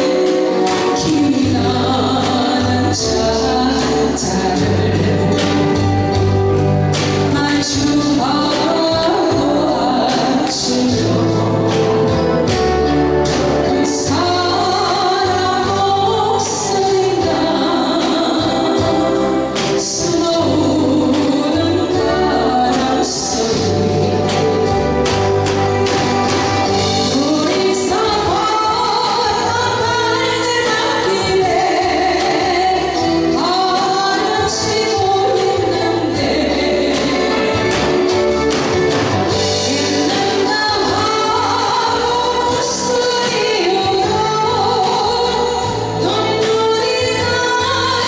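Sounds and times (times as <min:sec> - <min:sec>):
live band playing: 0:00.0 - 0:48.0
woman singing a ballad: 0:00.0 - 0:48.0.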